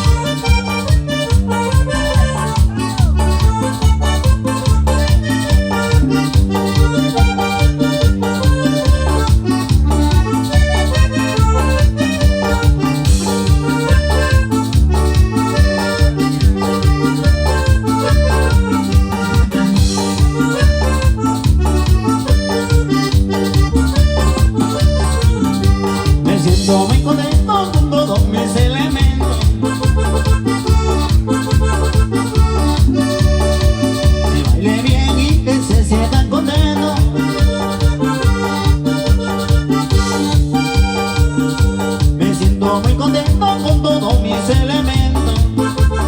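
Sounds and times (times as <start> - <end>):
cumbia on electronic keyboard: 0.0 - 46.0.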